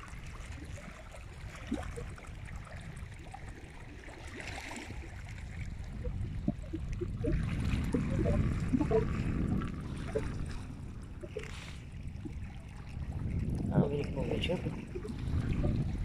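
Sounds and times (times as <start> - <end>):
small waves lapping on rocks: 0.0 - 16.0
wind rumbling on microphone: 0.0 - 16.0.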